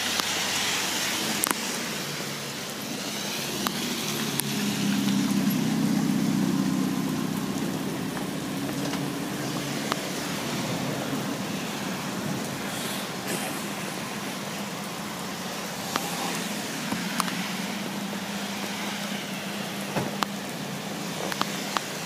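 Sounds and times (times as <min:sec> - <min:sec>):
heavy rain: 0:00.0 - 0:22.0
raindrops tapping close by: 0:00.0 - 0:22.0.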